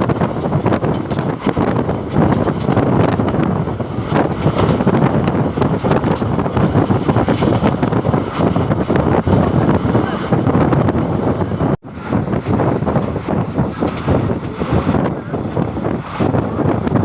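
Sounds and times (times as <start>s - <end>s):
moving train running noise: 0.0s - 17.0s
wind buffeting microphone: 0.0s - 17.0s.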